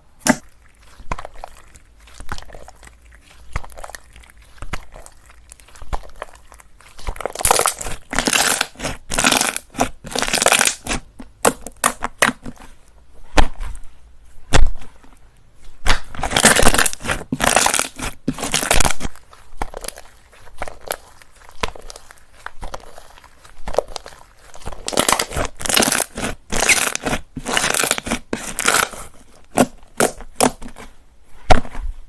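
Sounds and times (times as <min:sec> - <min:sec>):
slime popping: 0:00.2 - 0:12.7, 0:15.8 - 0:30.8
slime crackling and crunching: 0:00.2 - 0:12.8, 0:15.8 - 0:30.9.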